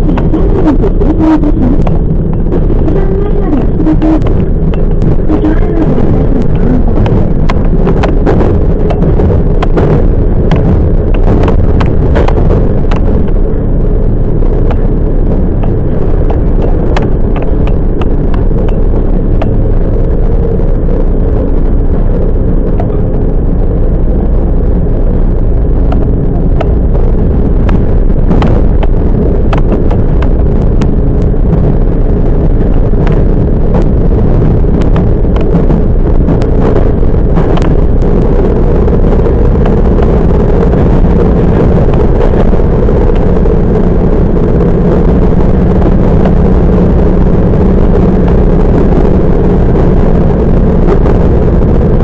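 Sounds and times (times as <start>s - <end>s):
train wheels rumbling on track: 0.0s - 23.4s, 25.2s - 52.0s.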